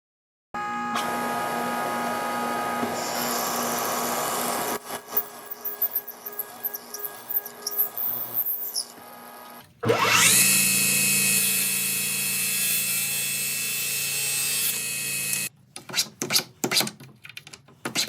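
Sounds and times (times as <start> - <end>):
power tool whine: 0.6 - 15.5.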